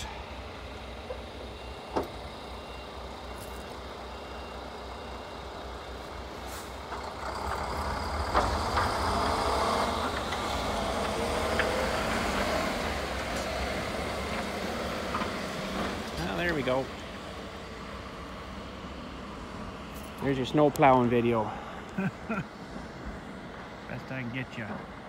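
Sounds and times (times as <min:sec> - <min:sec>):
diesel truck engine running: 0:00.0 - 0:25.0
plow blade pushing snow: 0:00.0 - 0:25.0.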